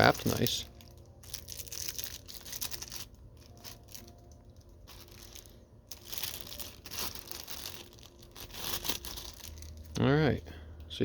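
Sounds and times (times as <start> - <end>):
wrapping crinkling and rustling: 0.0 - 10.4.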